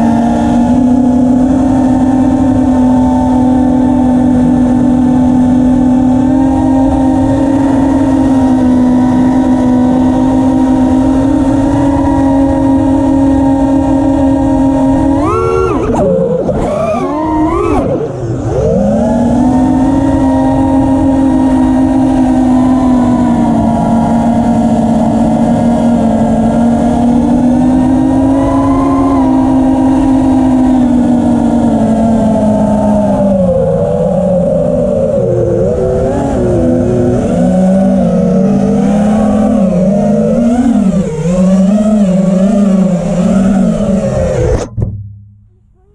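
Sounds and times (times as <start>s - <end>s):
drone motors whining: 0.0s - 44.8s.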